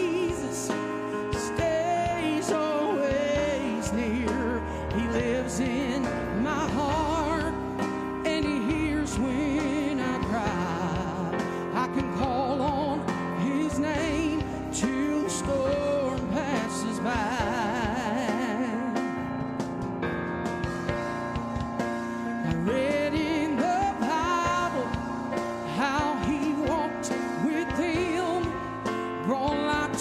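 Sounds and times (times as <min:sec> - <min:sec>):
gospel instrumental accompaniment: 0:00.0 - 0:30.0.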